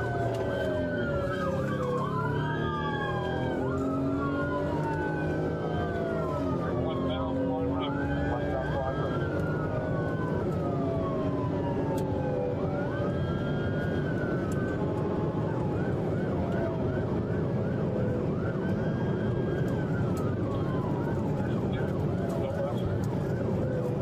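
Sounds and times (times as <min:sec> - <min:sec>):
car engine and road noise: 0:00.0 - 0:24.0
police siren wailing and yelping: 0:00.0 - 0:24.0.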